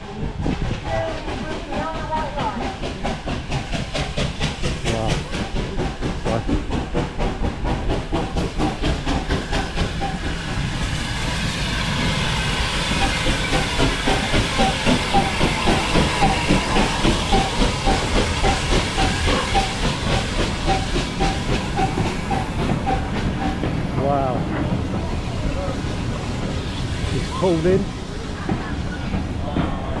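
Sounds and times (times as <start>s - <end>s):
regular locomotive beat: 0.0s - 30.0s
steam locomotive hissing: 0.0s - 30.0s.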